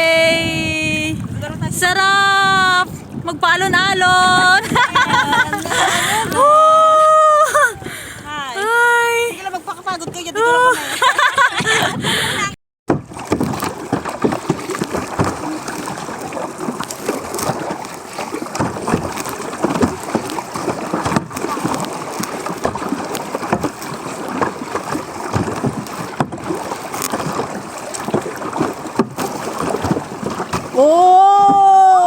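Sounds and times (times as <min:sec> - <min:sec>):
water splashing around a kayak: 0:00.0 - 0:32.0.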